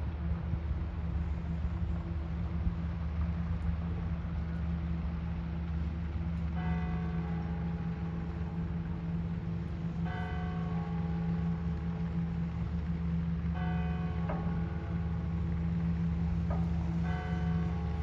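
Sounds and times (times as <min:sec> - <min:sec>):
idling vehicle hum: 0:00.0 - 0:18.0.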